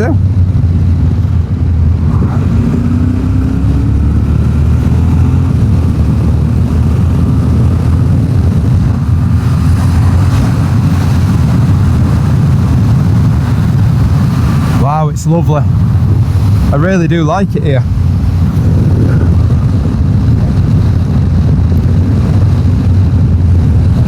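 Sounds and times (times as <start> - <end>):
motorcycle engine droning: 0.0 - 24.0
road and wind noise: 0.0 - 24.0.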